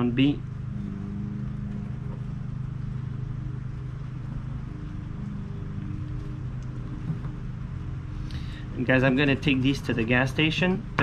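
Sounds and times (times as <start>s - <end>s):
low motor-like hum: 0.0s - 11.0s.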